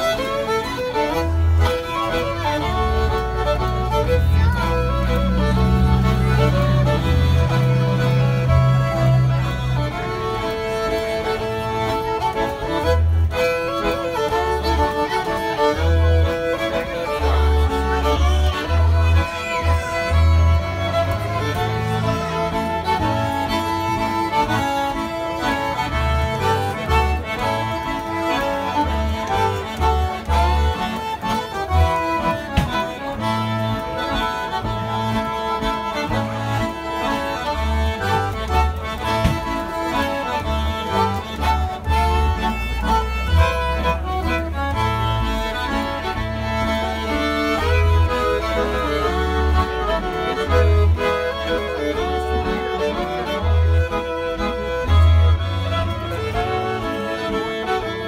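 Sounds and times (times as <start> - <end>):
accordion bass notes: 0.0 - 58.0
fiddle melody: 0.0 - 58.0.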